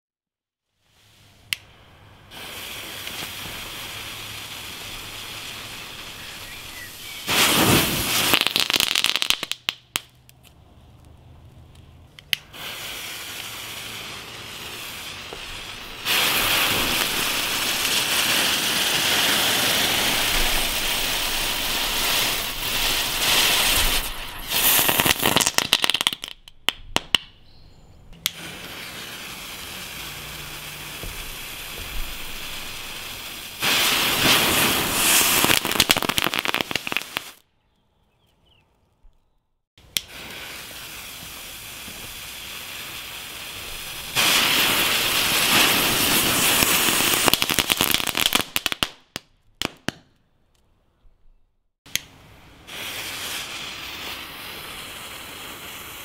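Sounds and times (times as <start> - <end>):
firework spraying sparks hissing: 0.8 - 10.2, 12.2 - 27.1, 28.2 - 37.4, 39.8 - 49.8, 51.9 - 56.0
firework crackling pops: 0.8 - 27.4, 28.2 - 37.5, 39.8 - 50.2, 51.9 - 56.0.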